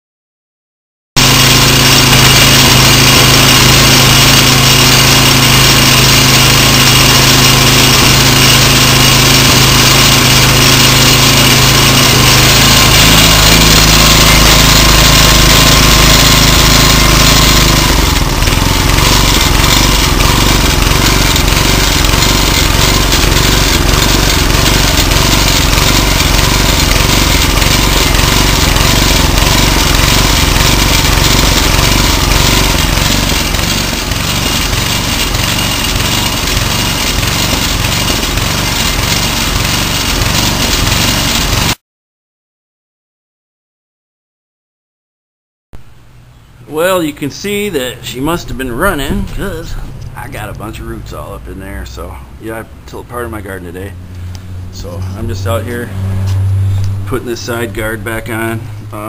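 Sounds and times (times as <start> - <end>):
tiller engine running: 1.2 - 41.8, 45.8 - 59.0.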